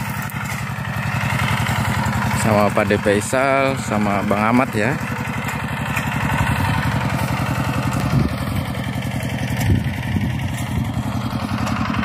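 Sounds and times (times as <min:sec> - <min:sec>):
hand tractor engine chugging: 0:00.0 - 0:12.0.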